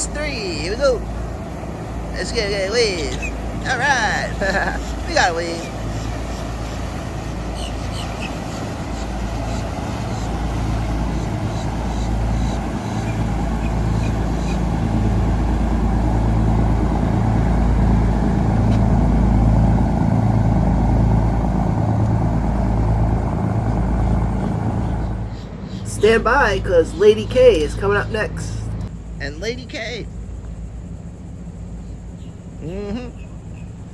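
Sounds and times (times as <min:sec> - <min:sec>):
motorboat engine rumbling: 0:00.0 - 0:33.9.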